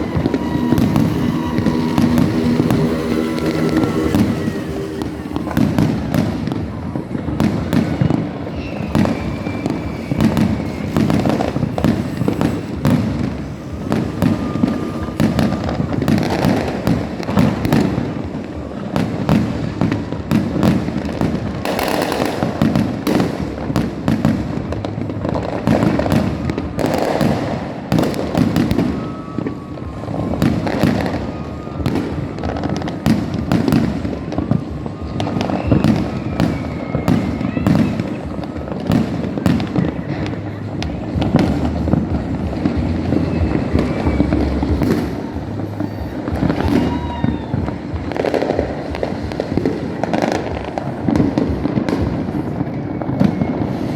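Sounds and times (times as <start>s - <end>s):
fireworks and firecrackers banging: 0.0s - 53.9s.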